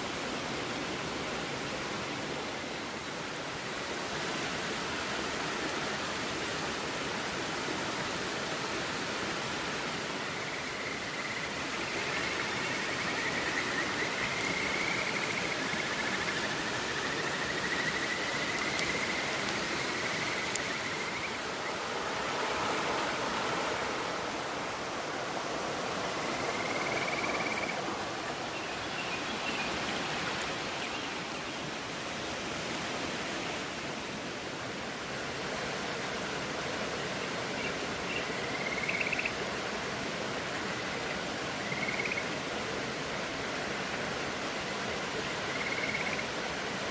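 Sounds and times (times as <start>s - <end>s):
river flowing: 0.0s - 46.9s.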